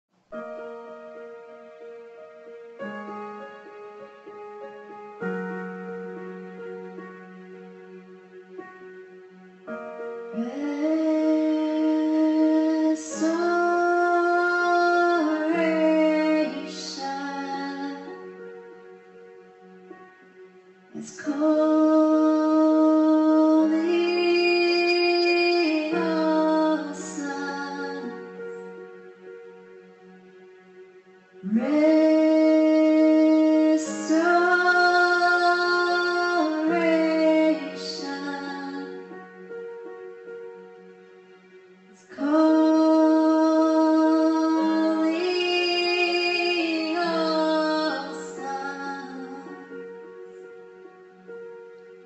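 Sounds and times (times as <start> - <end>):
soft sustained accompaniment chords: 0.3 - 52.0.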